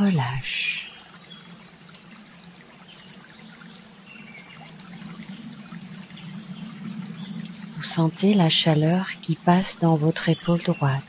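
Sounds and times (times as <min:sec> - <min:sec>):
low steady hum: 0:00.0 - 0:11.0
trickling water: 0:00.0 - 0:11.0.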